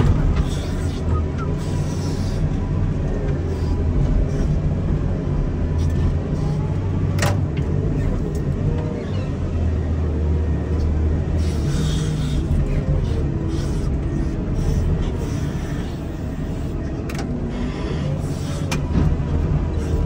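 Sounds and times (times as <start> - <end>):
wheel loader diesel engine rumbling: 0.0 - 20.0.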